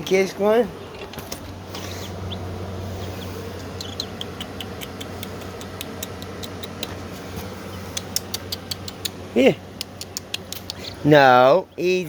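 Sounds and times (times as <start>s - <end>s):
baby chicks peeping: 0.0s - 12.0s
steady low hum: 0.0s - 12.0s.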